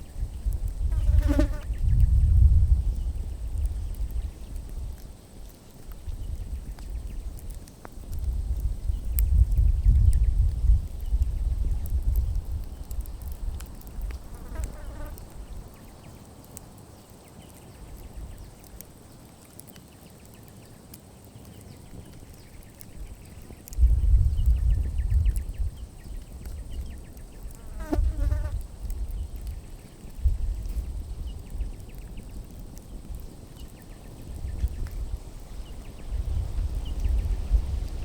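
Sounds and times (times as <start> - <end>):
campfire crackles: 0.0 - 38.0.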